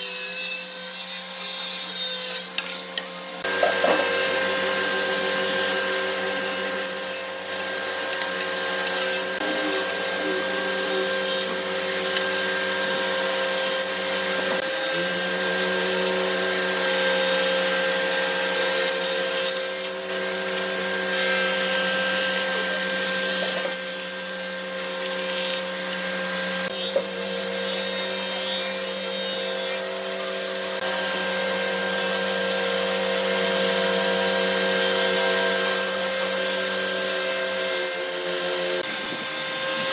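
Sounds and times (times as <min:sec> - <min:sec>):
power tool motor whine: 0:00.0 - 0:39.9.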